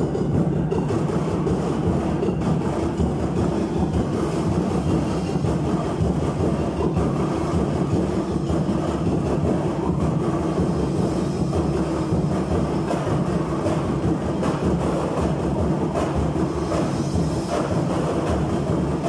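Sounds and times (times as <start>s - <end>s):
percussion ensemble drumming: 0.0s - 19.0s.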